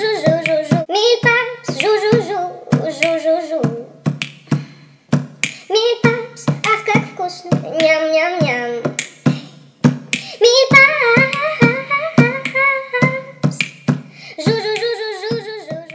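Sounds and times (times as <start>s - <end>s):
high-pitched singing voice: 0.0s - 4.1s, 5.6s - 9.5s, 10.3s - 15.9s
steady clicking beat: 0.2s - 15.9s.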